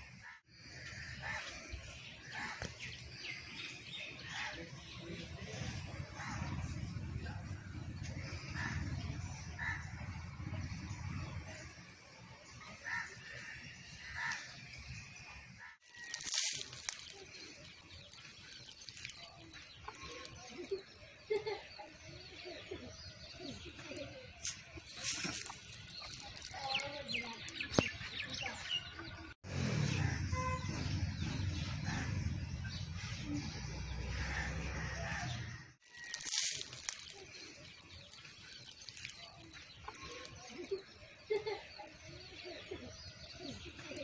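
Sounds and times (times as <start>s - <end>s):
birds calling: 0.0s - 44.0s.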